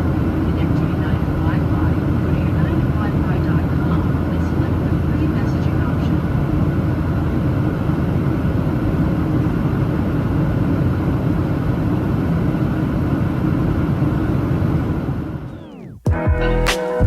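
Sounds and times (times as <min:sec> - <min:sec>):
airplane cabin roar: 0:00.0 - 0:16.7.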